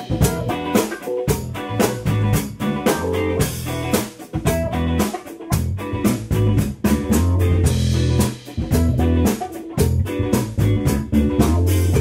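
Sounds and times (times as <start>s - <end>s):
bass: 0.0s - 12.0s
drum kit beat: 0.0s - 12.0s
guitar: 0.0s - 12.0s.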